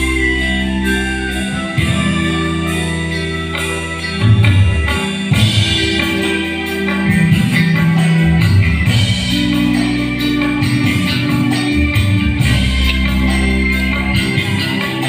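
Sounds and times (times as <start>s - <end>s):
bass notes: 0.0s - 15.0s
drum kit beat: 0.0s - 15.0s
electric guitars: 0.0s - 15.0s
keyboards: 0.0s - 15.0s.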